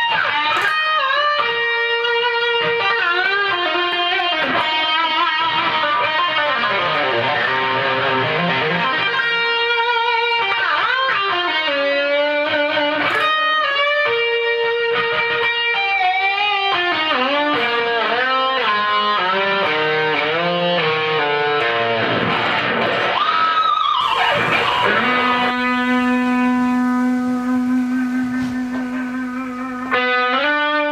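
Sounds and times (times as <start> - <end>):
electric guitar lead melody: 0.0 - 30.9.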